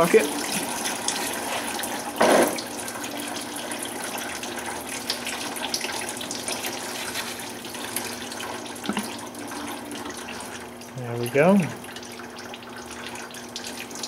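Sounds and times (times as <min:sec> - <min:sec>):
coolant trickling into bucket: 0:00.0 - 0:14.0.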